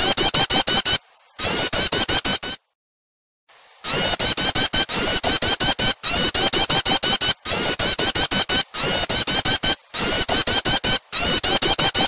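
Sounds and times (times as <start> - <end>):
rapid high bird chirps: 0.0 - 2.6, 3.8 - 12.0.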